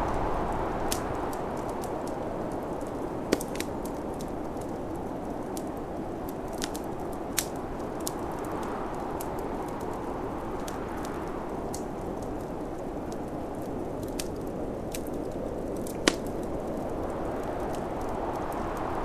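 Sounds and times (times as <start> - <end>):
snowstorm wind rushing: 0.0 - 6.2, 7.8 - 19.0
fire popping: 0.0 - 19.0
wood fire crackling: 0.0 - 19.0.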